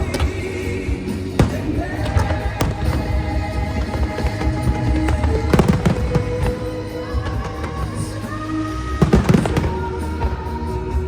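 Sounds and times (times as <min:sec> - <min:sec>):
fireworks bangs: 0:00.0 - 0:11.0
music with sustained notes: 0:00.0 - 0:11.0.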